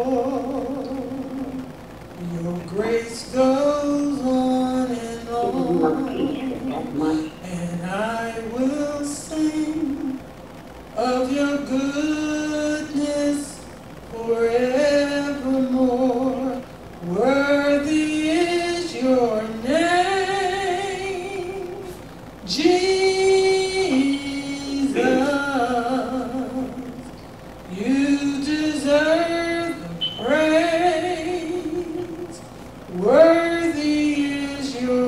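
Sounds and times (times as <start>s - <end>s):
woman singing a slow song: 0.0s - 10.2s, 14.1s - 35.0s.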